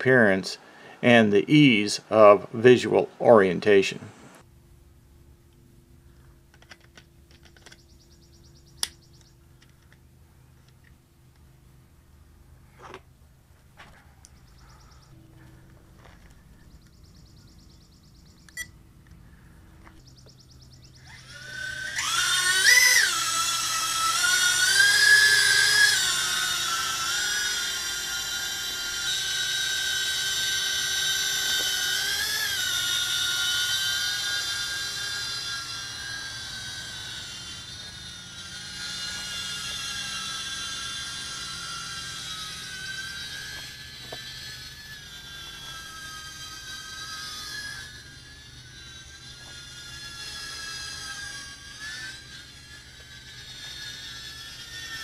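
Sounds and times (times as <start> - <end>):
quadcopter propellers whining: 0.0 - 55.0.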